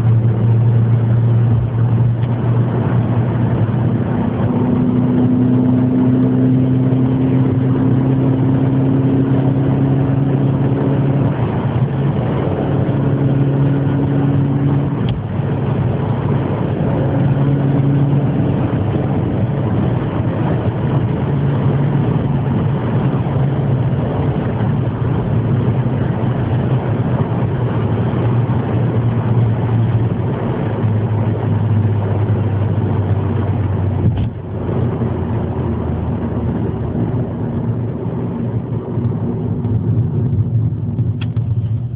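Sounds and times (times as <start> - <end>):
racing car engine: 0.0 - 41.9.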